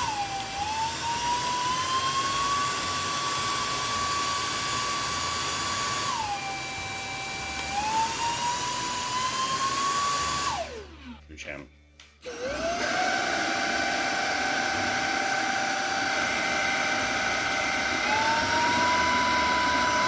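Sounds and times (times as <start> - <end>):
stick vacuum motor whining: 0.0 - 11.3, 12.2 - 20.0.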